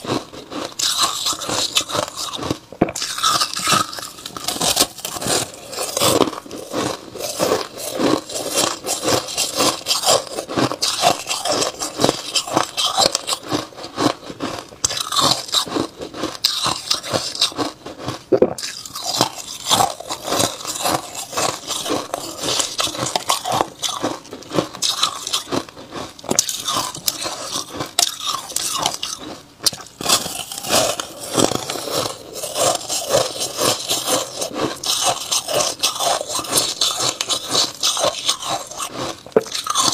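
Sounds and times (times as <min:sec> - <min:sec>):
person crunching ice with teeth: 0:00.0 - 0:39.9.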